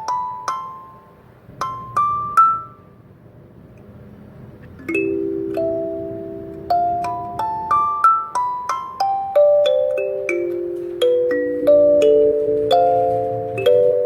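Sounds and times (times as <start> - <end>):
kalimba notes ringing: 0.0 - 3.0, 4.8 - 14.0.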